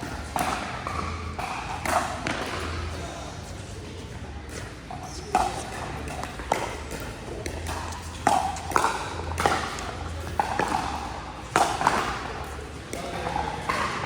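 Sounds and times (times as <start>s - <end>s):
ball bouncing on court: 0.0s - 3.3s, 4.4s - 14.0s.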